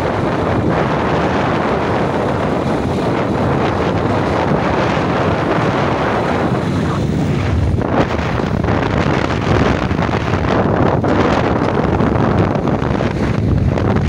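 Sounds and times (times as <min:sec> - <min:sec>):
moving vehicle rumble: 0:00.0 - 0:14.0
wind rushing across microphone: 0:00.0 - 0:14.0.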